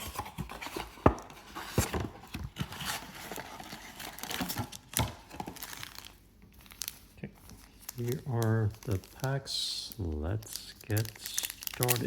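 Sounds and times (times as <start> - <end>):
cardboard and wrapper rustling: 0.0 - 12.0.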